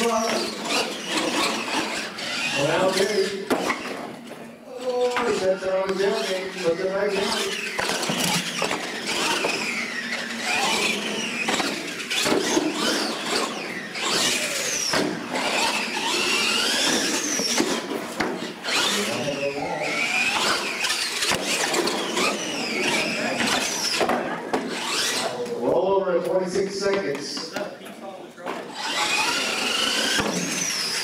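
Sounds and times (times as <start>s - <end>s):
electric motors whining: 0.0s - 25.8s, 28.6s - 31.0s.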